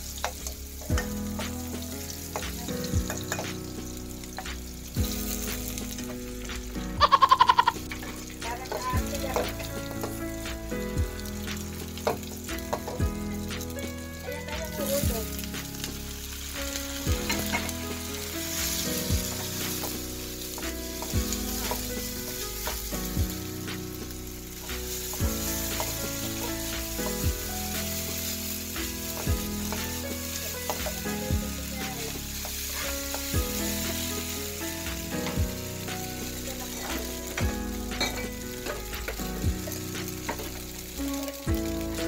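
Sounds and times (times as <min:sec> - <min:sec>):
background music with soft beat: 0:00.0 - 0:42.0
food sizzling in a hot pan: 0:00.0 - 0:42.0.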